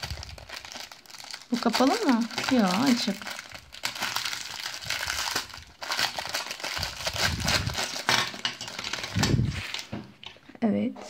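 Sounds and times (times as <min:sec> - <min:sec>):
packaging crinkling and rustling: 0:00.0 - 0:10.5.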